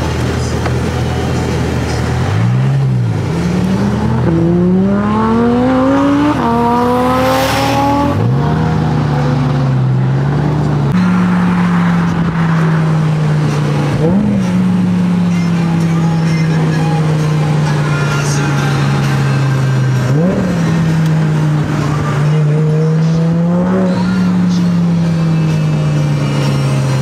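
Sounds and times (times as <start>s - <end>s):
sports car engine accelerating: 0.0s - 27.0s.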